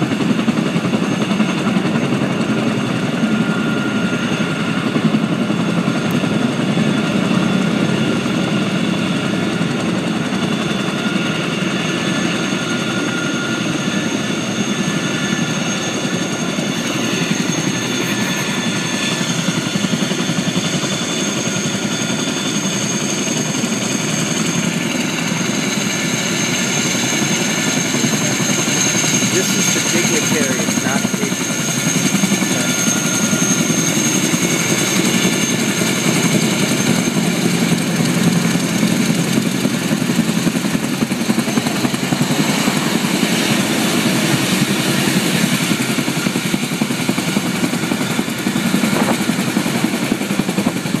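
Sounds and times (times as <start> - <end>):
helicopter rotor beat: 0.0 - 51.0
helicopter turbine whine: 0.0 - 51.0.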